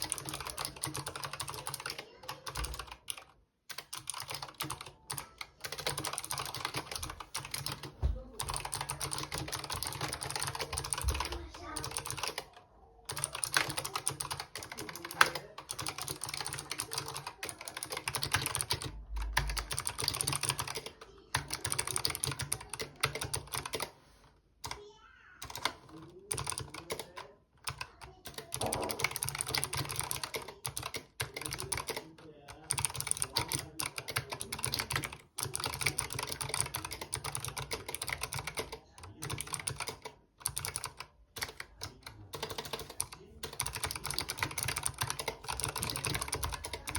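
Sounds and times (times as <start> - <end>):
keyboard typing clatter: 0.0 - 24.0, 25.4 - 46.9.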